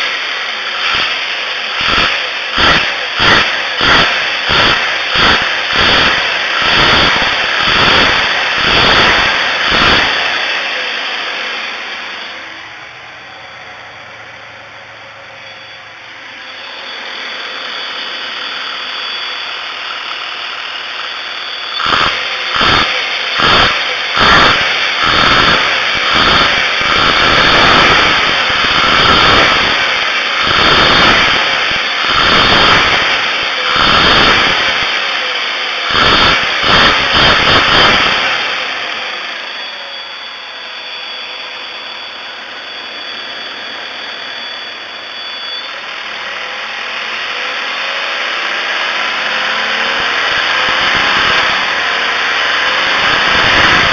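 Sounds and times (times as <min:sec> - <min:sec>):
engine idling and revving: 0:00.0 - 0:53.9.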